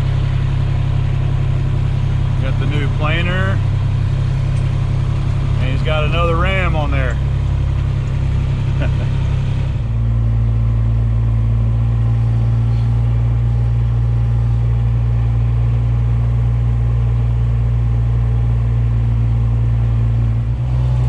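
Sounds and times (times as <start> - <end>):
pickup truck engine idling: 0.0 - 20.6.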